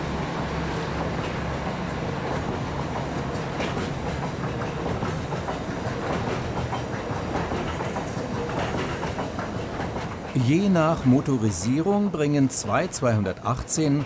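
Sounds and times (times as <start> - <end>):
train wheels clattering over rail joints: 0.3 - 14.0.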